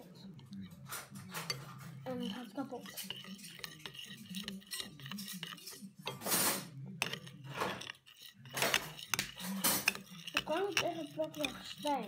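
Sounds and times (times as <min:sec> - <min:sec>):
spoon stirring slime in bowl: 0:00.0 - 0:12.0.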